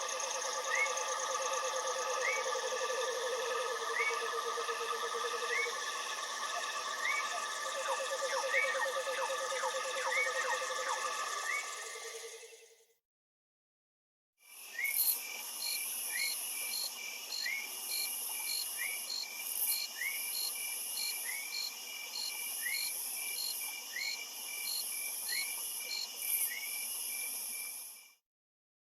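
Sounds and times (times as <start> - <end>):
pulsing cricket chirp: 0.0 - 12.7, 14.5 - 28.2.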